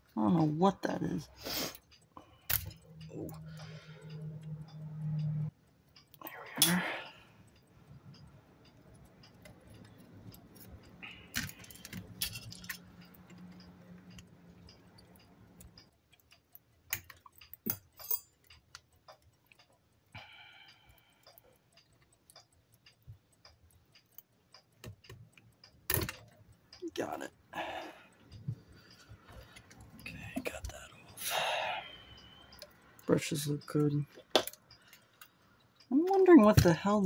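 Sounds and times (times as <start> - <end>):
light clicks and taps of small parts: 1.2 - 31.2, 31.9 - 37.0.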